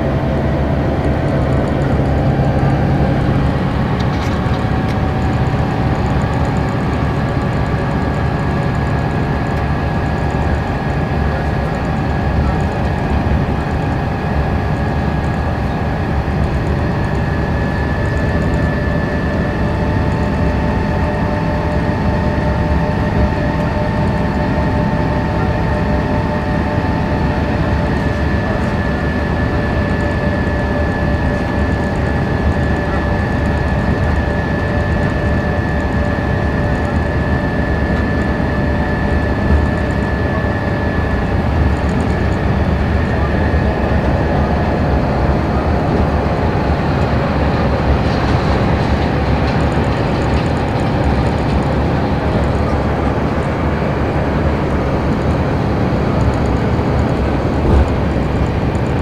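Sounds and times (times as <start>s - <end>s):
bus engine running: 0.0s - 59.0s
high whine: 0.0s - 59.0s
road and tyre noise: 0.0s - 59.0s.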